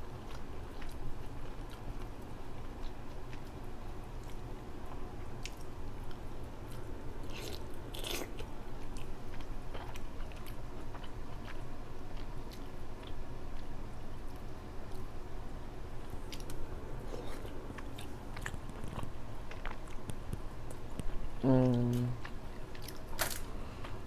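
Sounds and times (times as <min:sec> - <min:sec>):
steady low hum: 0:00.0 - 0:24.0
chewing crab: 0:00.2 - 0:15.2, 0:16.0 - 0:24.0.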